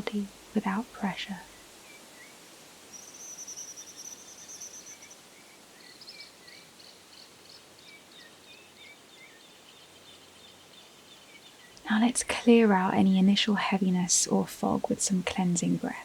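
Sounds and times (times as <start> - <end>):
small birds chirping: 0.0 - 16.0
soft hiss: 0.0 - 16.0.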